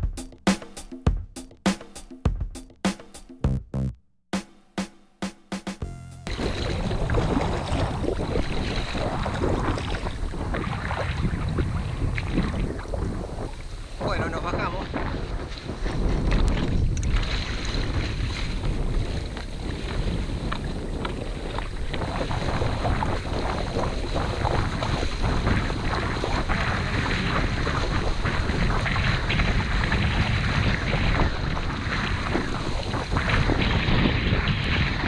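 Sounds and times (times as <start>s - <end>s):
wading through shallow water: 6.2s - 35.0s
kayak hull swishing through water: 6.3s - 35.0s
wind buffeting microphone: 6.3s - 35.0s.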